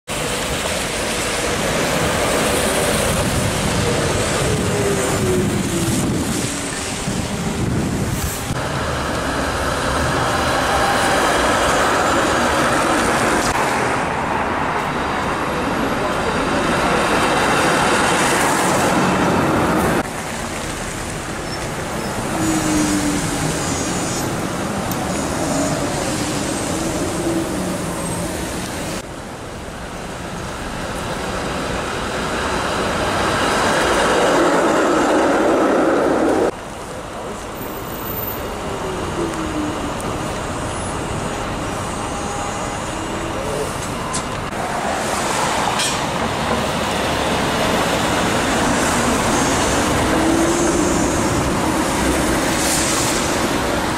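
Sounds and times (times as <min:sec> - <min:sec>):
cars passing: 0:00.1 - 0:29.1, 0:30.4 - 0:53.9
streetcars rolling on rails: 0:00.1 - 0:53.9.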